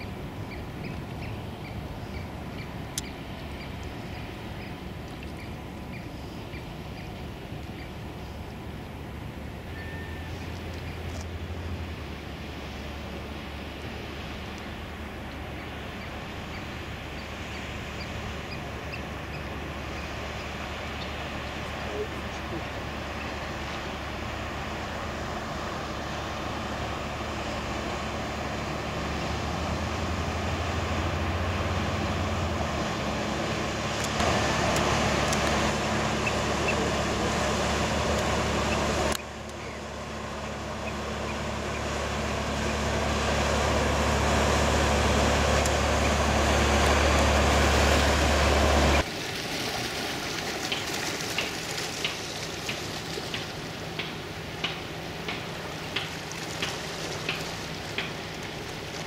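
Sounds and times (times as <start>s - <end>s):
boat diesel engine running: 0.0s - 59.0s
rush of boat wash: 0.0s - 59.0s.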